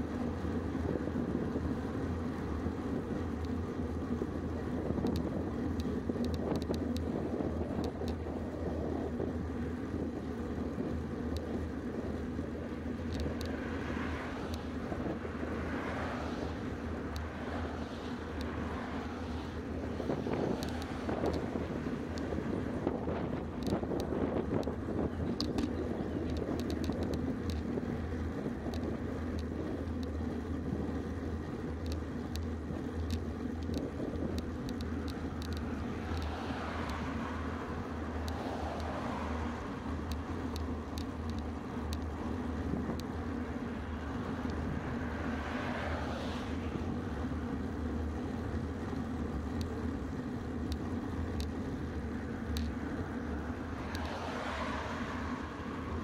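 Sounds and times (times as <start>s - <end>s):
cars passing: 0.0s - 56.0s
wind and bicycle road rumble: 0.0s - 56.0s.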